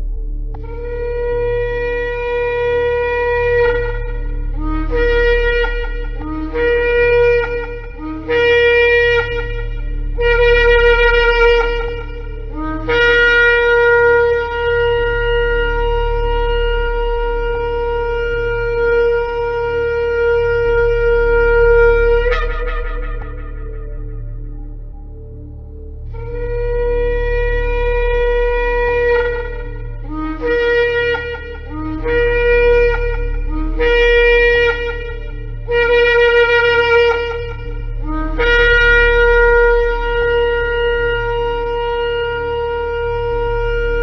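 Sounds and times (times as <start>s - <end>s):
low steady hum: 0.0s - 44.0s
shofar blasts: 0.1s - 44.0s.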